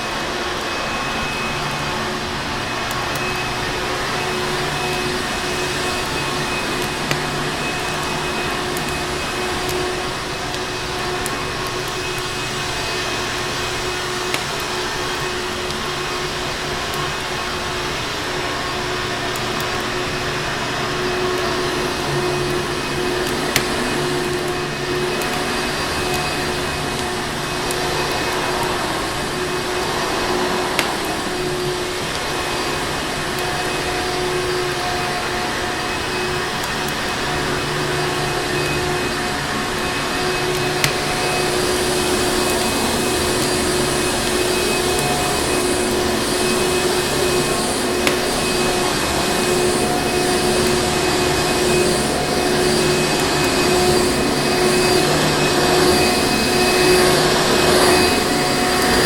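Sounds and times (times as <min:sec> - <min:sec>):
vacuum cleaner running: 0:00.0 - 0:59.0
wood fire popping: 0:00.6 - 0:32.6, 0:40.4 - 0:59.0.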